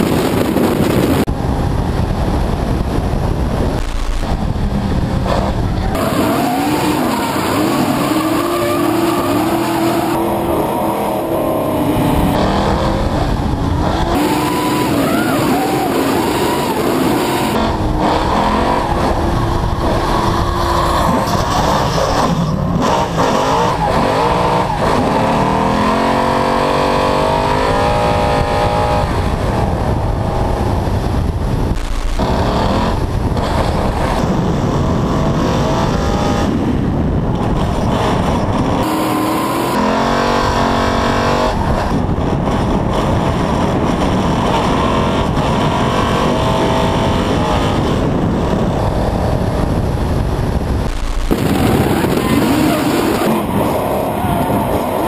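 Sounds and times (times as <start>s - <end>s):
car engine revving high: 3.6s - 36.8s, 37.4s - 55.0s.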